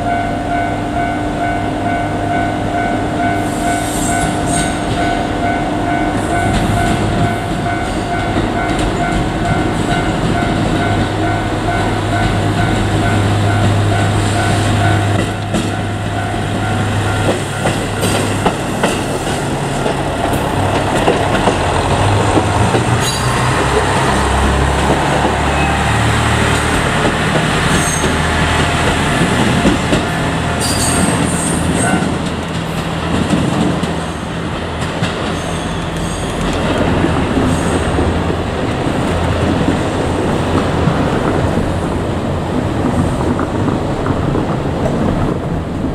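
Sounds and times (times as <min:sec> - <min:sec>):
crossing warning bell ringing: 0:00.0 - 0:41.6
train wheels clacking over rail joints: 0:03.2 - 0:45.9.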